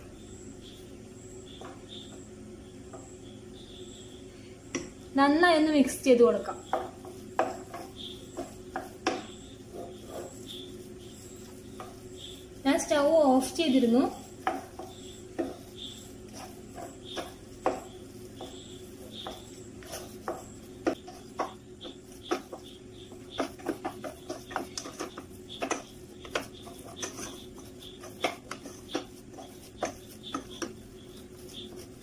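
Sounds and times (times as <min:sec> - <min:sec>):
low steady hum: 0:00.0 - 0:32.0
spatula knocking and scraping pan: 0:01.5 - 0:02.3, 0:06.1 - 0:32.0.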